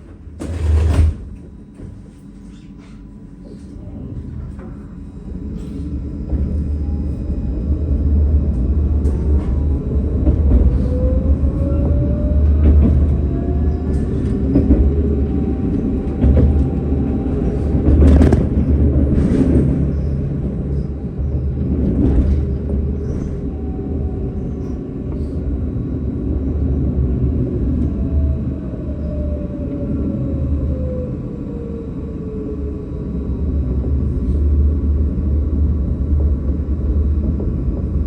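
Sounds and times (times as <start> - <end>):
tram rumbling on rails: 0.0 - 38.0
traction motor whine: 4.0 - 38.0.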